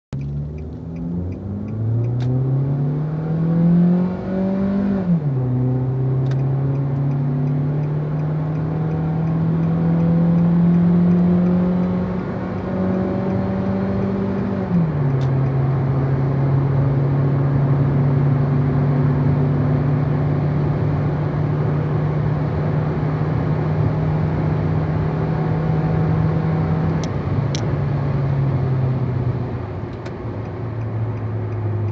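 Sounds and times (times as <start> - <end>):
car engine accelerating hard: 0.2 - 31.9.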